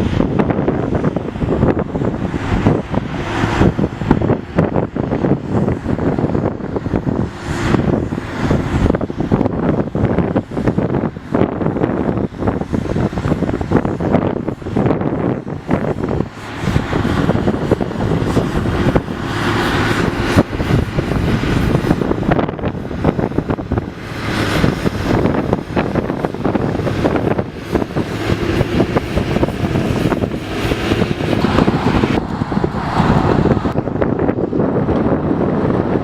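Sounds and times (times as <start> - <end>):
tractor engines running: 0.0 - 36.0
wind buffeting microphone: 0.0 - 36.0.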